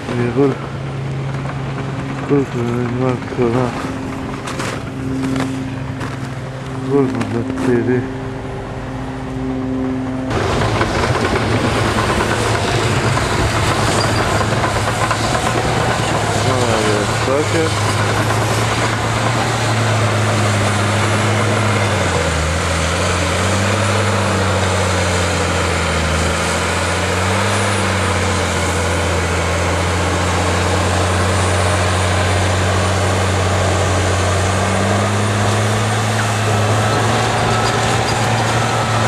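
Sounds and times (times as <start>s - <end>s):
bulldozer diesel engine under load: 0.0s - 39.0s
clatter of tracks: 0.0s - 39.0s.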